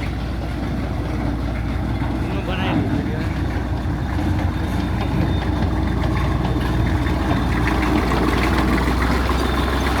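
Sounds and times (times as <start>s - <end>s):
tractor engine at low revs: 0.0s - 10.0s.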